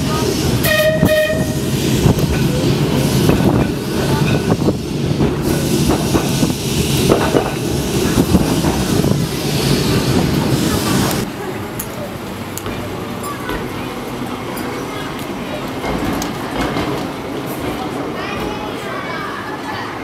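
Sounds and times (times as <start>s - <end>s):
tram wheels rumbling: 0.0s - 20.0s.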